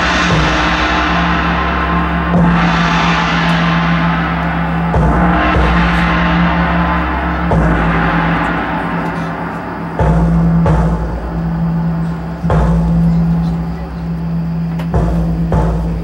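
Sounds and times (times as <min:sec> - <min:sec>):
gong crash: 0:00.0 - 0:16.0
marching band holding chords: 0:00.0 - 0:16.0.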